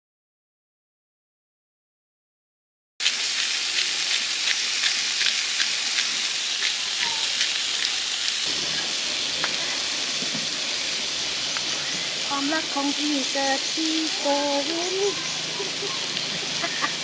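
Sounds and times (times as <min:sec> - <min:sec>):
burgers sizzling in a pan: 0:03.0 - 0:17.0.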